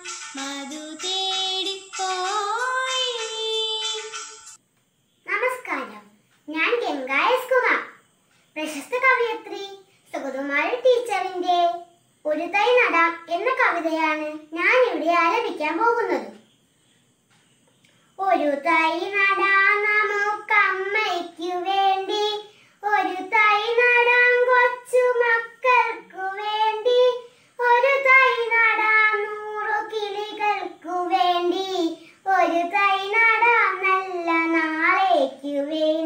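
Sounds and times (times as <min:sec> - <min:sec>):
girl singing: 0:00.0 - 0:04.6, 0:08.6 - 0:16.4, 0:18.2 - 0:36.0.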